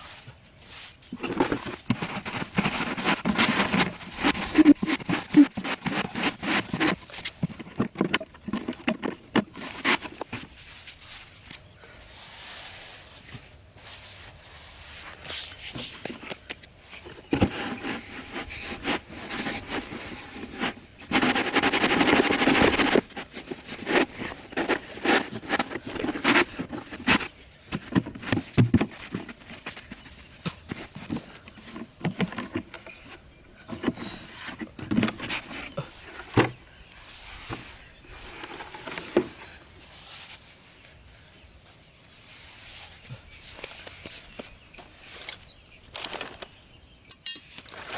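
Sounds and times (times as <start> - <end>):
scraping with knocks and clicks: 0.0 - 40.9, 42.2 - 47.9.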